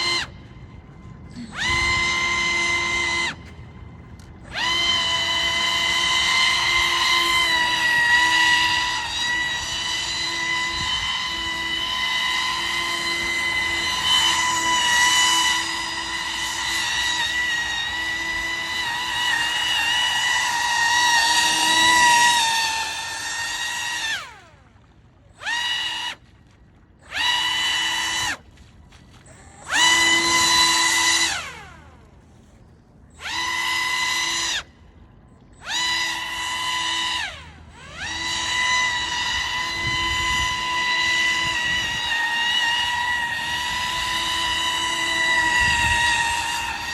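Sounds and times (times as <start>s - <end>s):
electric motor and fan whining: 0.0s - 46.9s.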